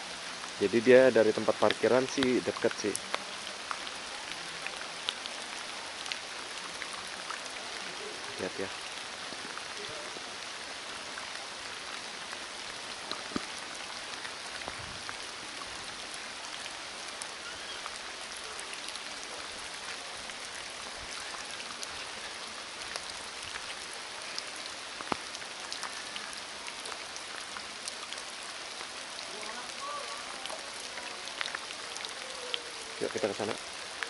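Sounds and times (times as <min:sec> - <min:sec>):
rain falling on wet ground: 0:00.0 - 0:34.0
rain drop ticks: 0:00.3 - 0:34.0.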